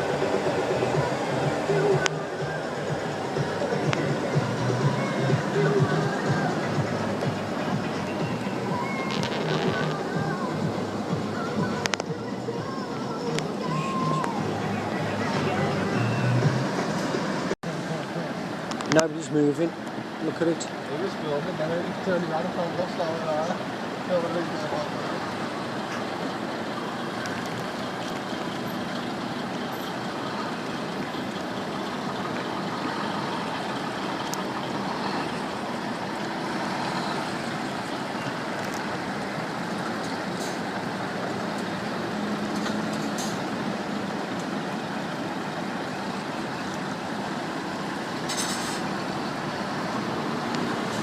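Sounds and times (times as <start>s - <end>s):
lorry engine running: 0.0s - 51.0s
motorway traffic: 0.0s - 51.0s.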